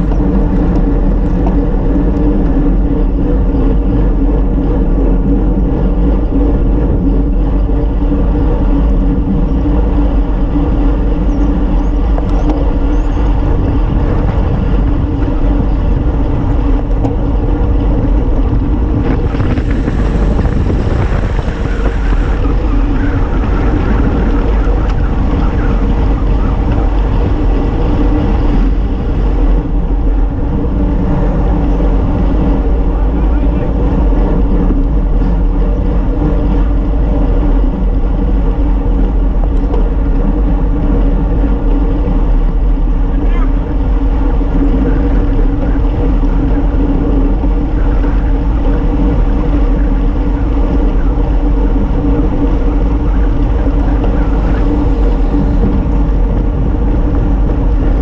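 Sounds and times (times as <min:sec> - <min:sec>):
tyres humming on asphalt: 0:00.0 - 0:58.0
wind rushing over microphone: 0:00.0 - 0:58.0.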